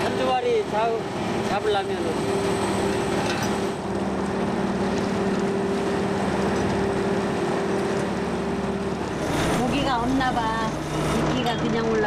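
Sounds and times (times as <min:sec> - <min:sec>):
boat engine droning hum: 0:00.0 - 0:12.0.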